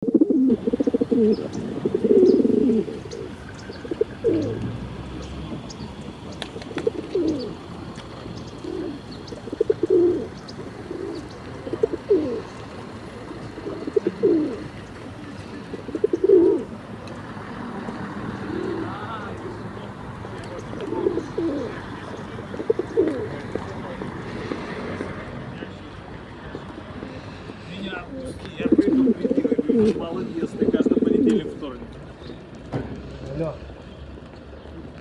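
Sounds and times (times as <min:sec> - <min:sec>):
pigeon cooing: 0:00.0 - 0:25.2, 0:28.1 - 0:31.6.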